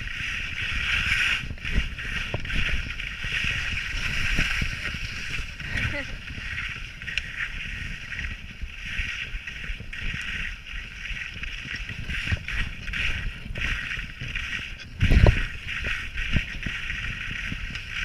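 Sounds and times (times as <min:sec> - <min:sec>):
skis scraping over hard snow: 0:00.0 - 0:18.0
wind rumbling on microphone: 0:00.0 - 0:18.0.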